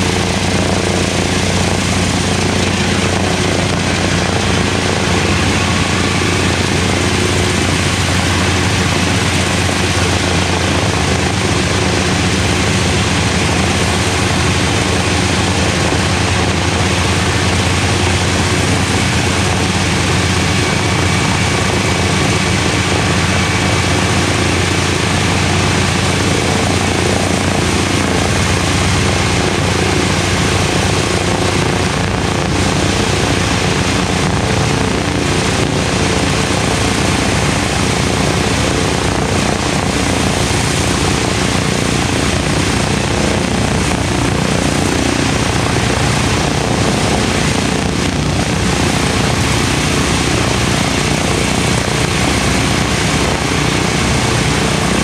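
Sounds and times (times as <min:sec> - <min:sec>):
radial aircraft engines idling: 0:00.0 - 0:55.0.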